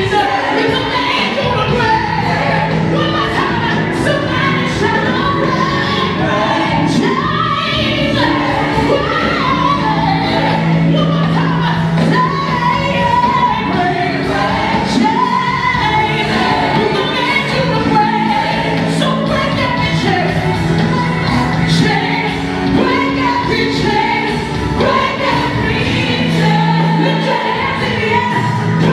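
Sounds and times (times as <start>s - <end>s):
choir singing gospel music: 0.0s - 28.9s.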